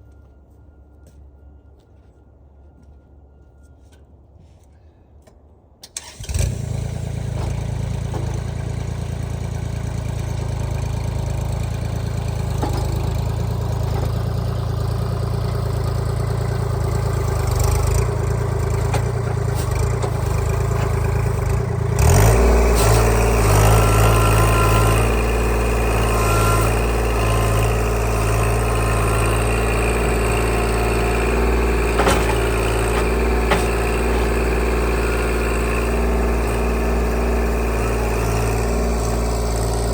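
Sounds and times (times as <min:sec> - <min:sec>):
engine starting and running: 0:05.8 - 0:39.9.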